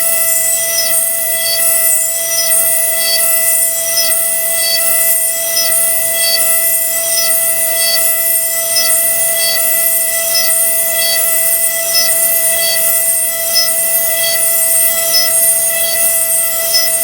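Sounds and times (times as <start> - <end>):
milling spindle whine: 0.0 - 17.0.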